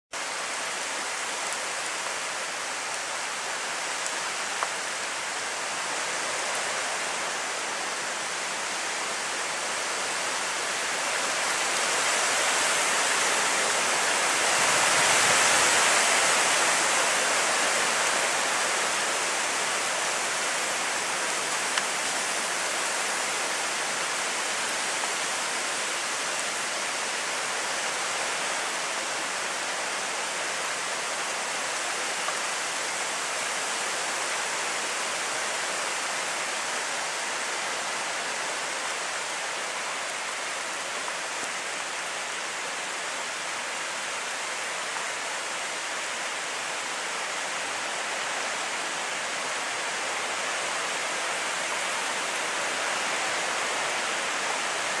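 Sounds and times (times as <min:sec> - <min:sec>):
heavy rain: 0:00.1 - 0:55.0.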